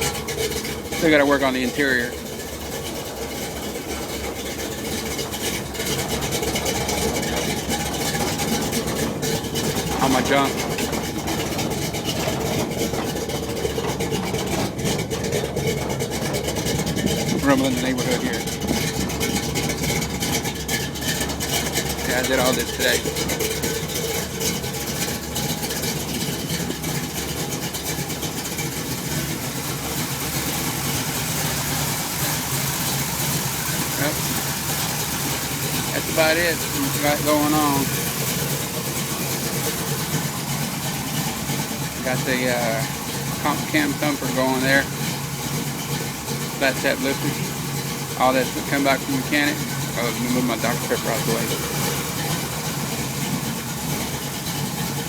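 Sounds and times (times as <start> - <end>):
engine idling with deep rumble: 0.0 - 55.0.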